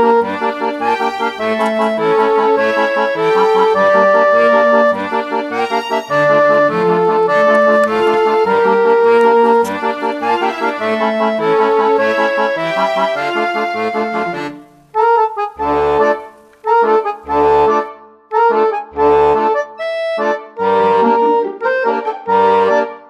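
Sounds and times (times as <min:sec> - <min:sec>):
accordion music: 0:00.0 - 0:23.0.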